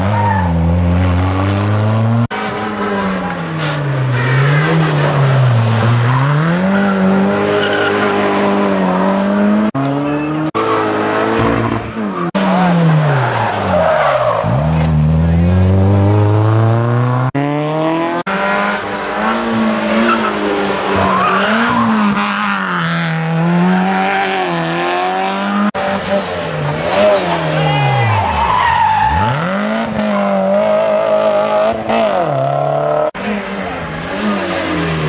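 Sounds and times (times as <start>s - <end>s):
rally car engines revving: 0.0s - 35.0s.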